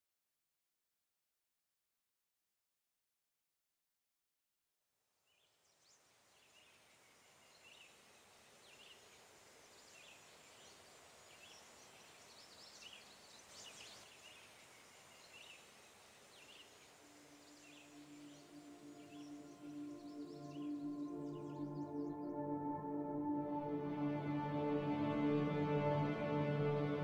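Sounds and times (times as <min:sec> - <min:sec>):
steady outdoor hiss: 0:05.3 - 0:27.0.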